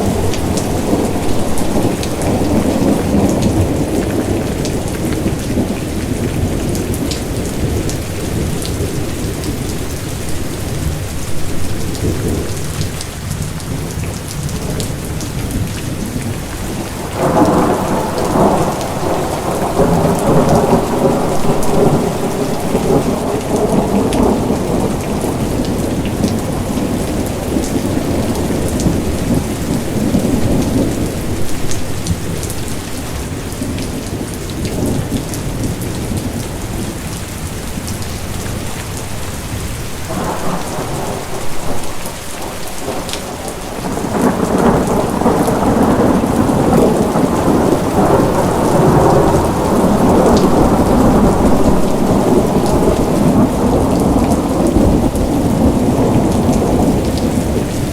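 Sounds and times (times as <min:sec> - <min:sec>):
rolling thunder: 0:00.0 - 0:36.9, 0:39.5 - 0:57.9
steady rain falling: 0:00.0 - 0:57.9.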